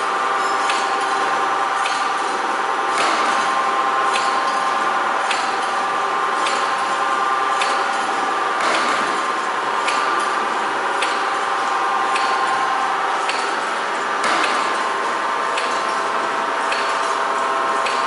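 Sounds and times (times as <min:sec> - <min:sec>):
spring coiling machine humming: 0:00.0 - 0:18.0.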